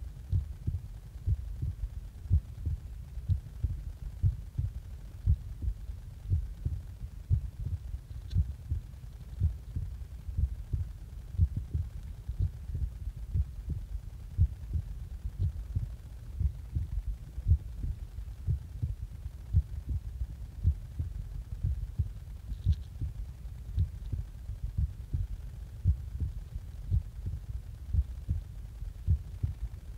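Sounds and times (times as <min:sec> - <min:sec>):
heart beating: 0:00.3 - 0:29.9.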